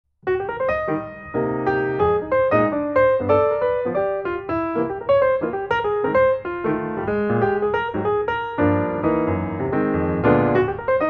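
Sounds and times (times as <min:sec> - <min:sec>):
piano music: 0:00.2 - 0:11.0.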